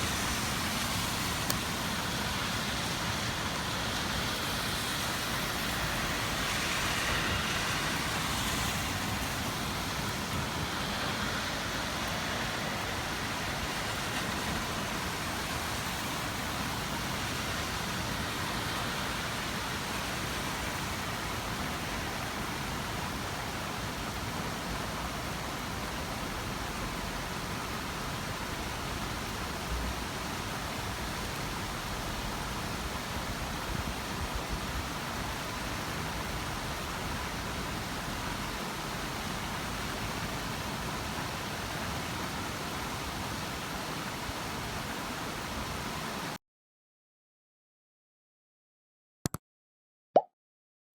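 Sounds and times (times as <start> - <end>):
steady rainfall: 0.0 - 46.4.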